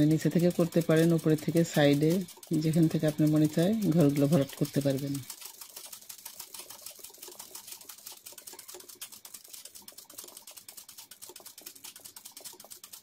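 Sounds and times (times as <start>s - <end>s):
sewing machine clicking: 0.0s - 13.0s.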